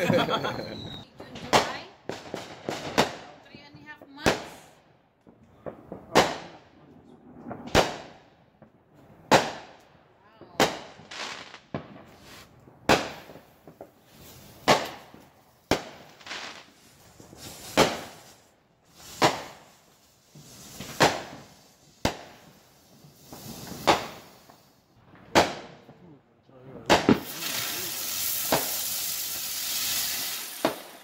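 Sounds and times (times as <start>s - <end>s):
firework bangs: 0.0s - 26.0s, 26.7s - 31.0s
firework crackling and hiss: 0.0s - 26.0s, 26.8s - 31.0s.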